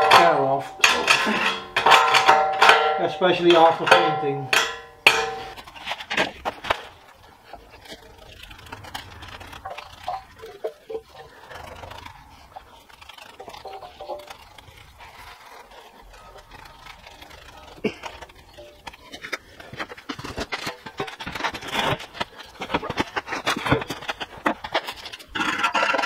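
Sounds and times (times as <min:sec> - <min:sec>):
scraping and handling metal: 0:00.0 - 0:26.0.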